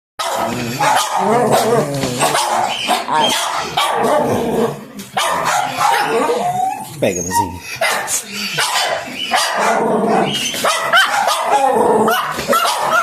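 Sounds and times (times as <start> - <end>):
dog barking: 0.2 - 4.3, 5.1 - 6.5, 7.3 - 13.0.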